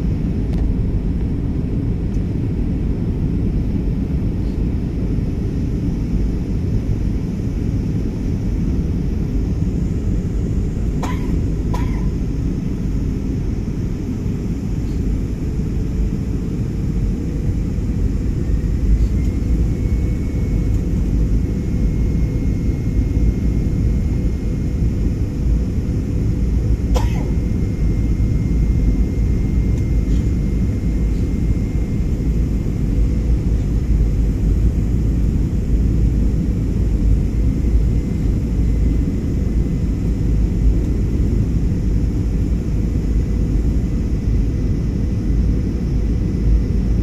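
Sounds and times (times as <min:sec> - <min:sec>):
airliner engines rumbling: 0:00.0 - 0:47.0.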